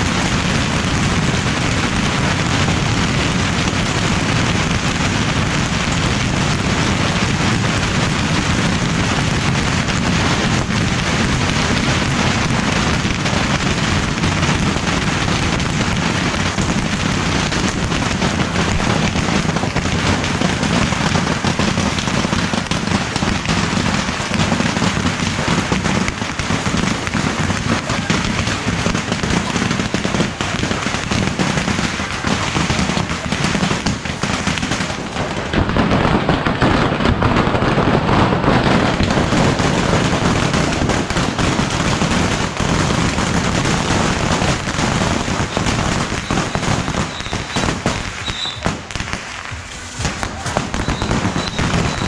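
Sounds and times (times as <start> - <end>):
fireworks crackling: 0.0 - 52.0.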